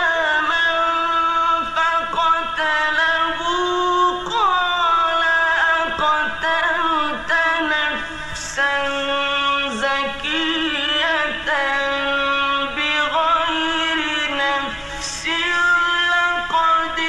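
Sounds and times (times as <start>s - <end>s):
man chanting melodic recitation: 0.0s - 17.0s.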